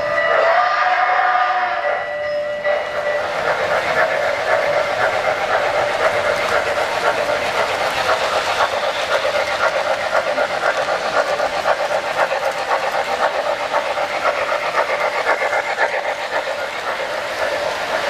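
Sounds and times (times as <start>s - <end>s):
model train clattering: 2.6s - 18.0s.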